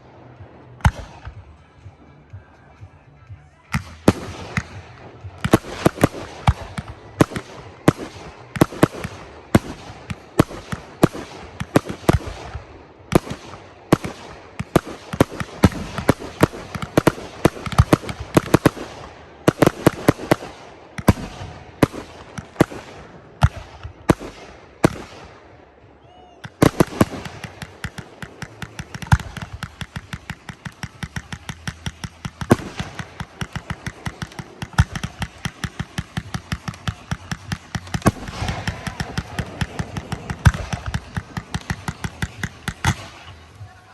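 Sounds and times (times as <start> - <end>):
fireworks bangs and cracks: 3.8 - 25.4, 26.4 - 43.9.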